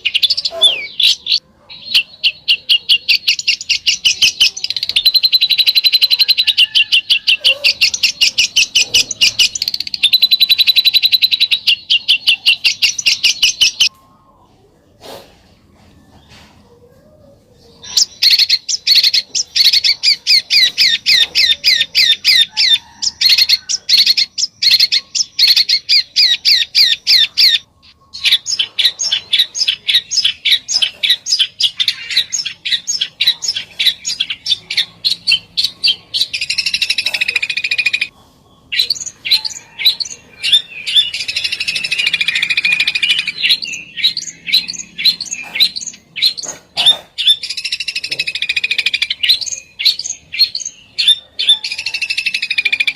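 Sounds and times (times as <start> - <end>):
bird buzzy chatter: 0.0 - 13.9, 14.9 - 52.9.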